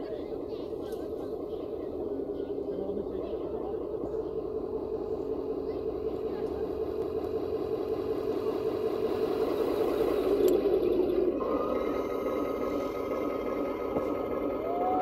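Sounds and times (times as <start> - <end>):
model tank tracks whirring clatter: 0.0 - 15.0
turret traversing whine: 0.0 - 15.0.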